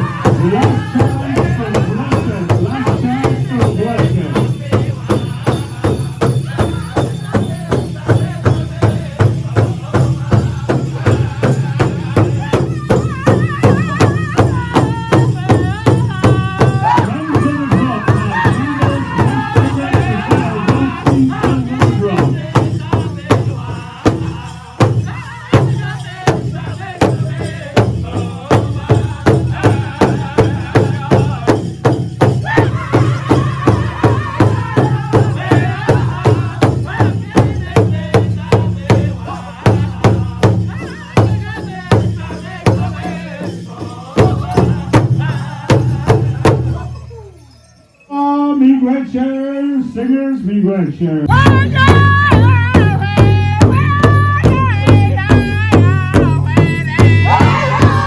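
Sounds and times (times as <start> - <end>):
large drum steady beat: 0.0 - 47.1, 51.3 - 58.0
high-pitched group singing: 0.0 - 50.0, 51.3 - 58.0.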